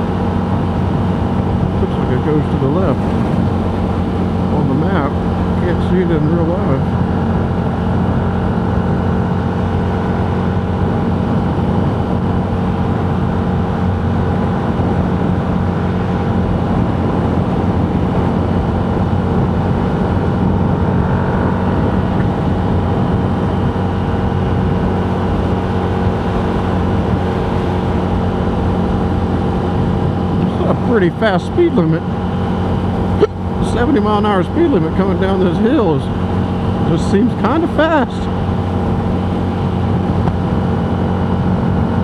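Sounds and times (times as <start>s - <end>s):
vehicle engine and road noise: 0.0s - 42.0s.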